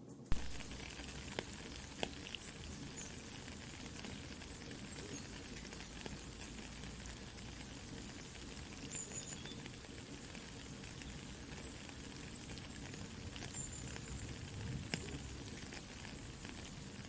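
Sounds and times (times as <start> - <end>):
soft rain hiss: 0.0 - 17.0
campfire crackling: 0.3 - 17.0.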